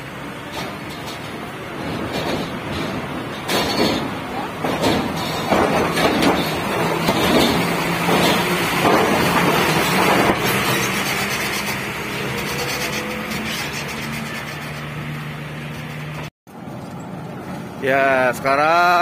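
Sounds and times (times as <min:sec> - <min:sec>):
diesel truck engine running: 0:00.0 - 0:19.0
metal plates clanking: 0:00.4 - 0:16.2.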